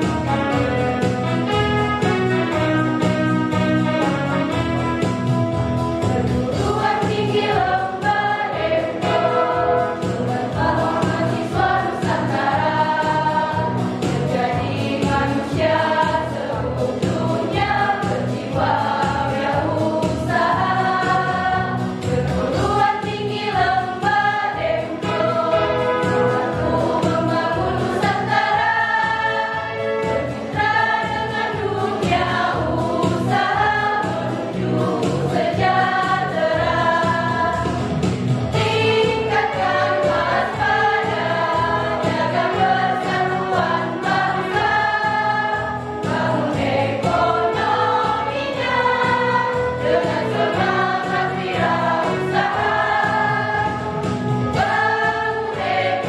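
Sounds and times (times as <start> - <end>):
women's choir singing: 6.1 - 37.9, 38.5 - 56.0.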